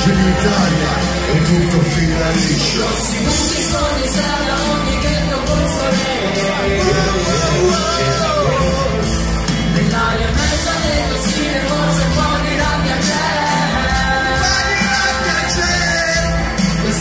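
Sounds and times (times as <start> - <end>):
person singing: 0.0 - 17.0
rap-pop song with drum beat: 0.0 - 17.0.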